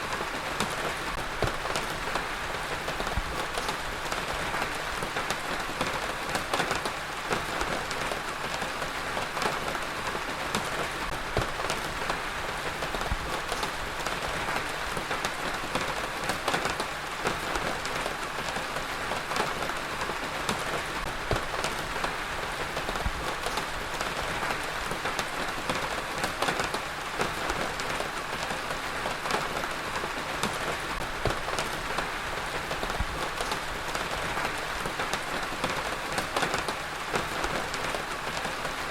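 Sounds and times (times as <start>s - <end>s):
heavy rain on hard surface: 0.0s - 38.9s.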